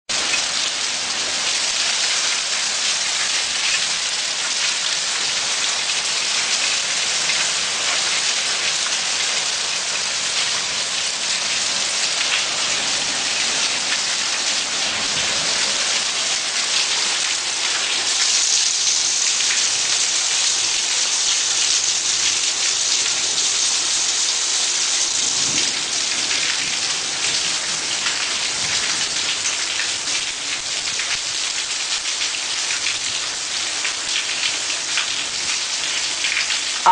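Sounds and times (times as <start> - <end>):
heavy rain: 0.1 - 36.9.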